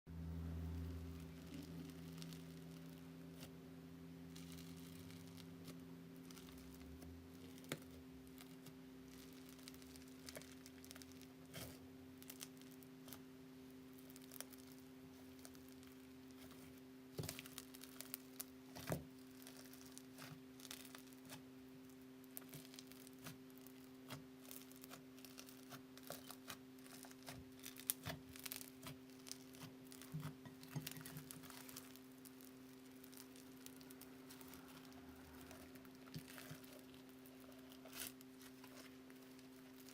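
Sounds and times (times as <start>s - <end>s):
steady low hum: 0.1s - 39.9s
slime crackling and popping: 0.6s - 3.5s, 4.3s - 39.9s.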